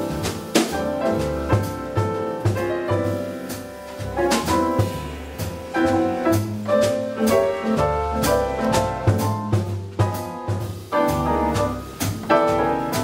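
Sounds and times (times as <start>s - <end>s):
double bass notes: 0.0s - 13.0s
drum kit and cymbals: 0.0s - 13.0s
piano chords: 0.0s - 13.0s.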